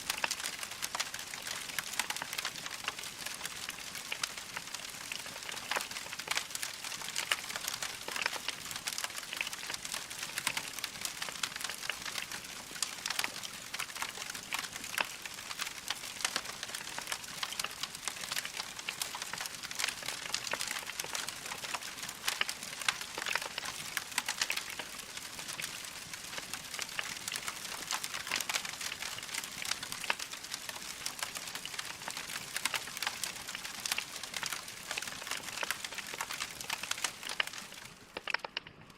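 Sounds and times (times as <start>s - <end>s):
fire pops and snaps: 0.0s - 38.9s
soft hiss of fire: 0.0s - 38.9s
wood fire crackling: 0.0s - 38.9s.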